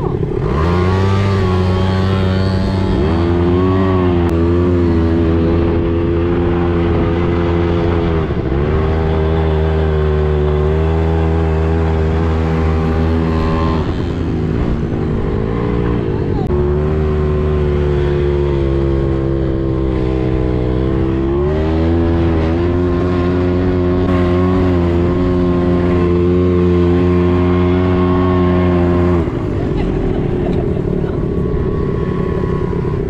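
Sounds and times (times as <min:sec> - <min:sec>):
quad bike engine revving: 0:00.0 - 0:33.0.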